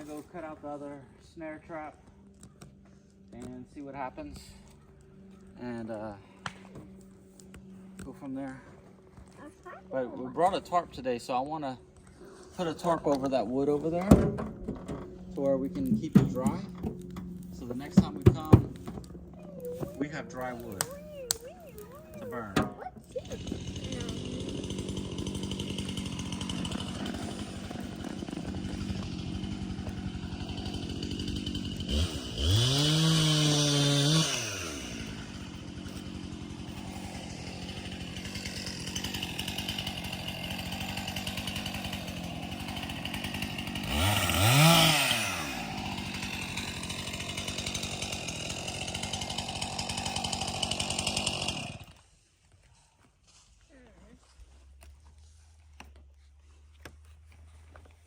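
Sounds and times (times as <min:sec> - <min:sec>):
chainsaw engine idling and revving: 0:00.0 - 0:58.0.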